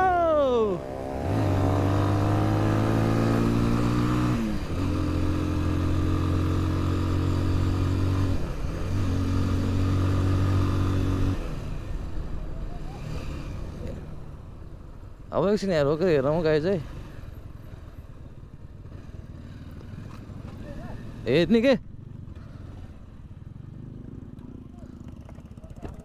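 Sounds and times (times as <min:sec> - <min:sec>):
motorcycle engine accelerating: 0:00.0 - 0:14.7, 0:15.9 - 0:26.0.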